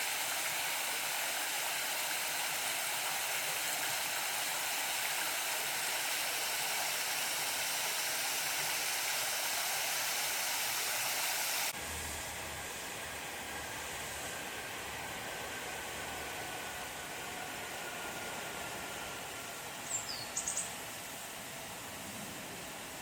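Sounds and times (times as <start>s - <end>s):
small waterfall splashing: 0.0s - 23.0s.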